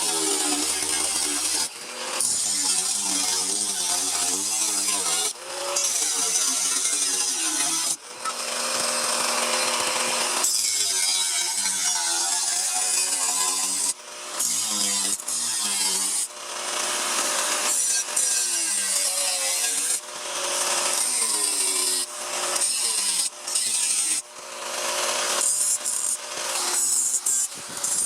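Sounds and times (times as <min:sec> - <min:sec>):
hand tool rasping sheet metal: 0:00.0 - 0:28.0.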